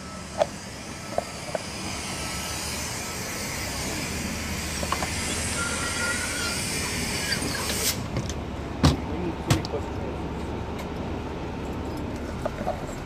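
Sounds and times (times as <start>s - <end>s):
diesel engine hum: 0.0s - 13.0s.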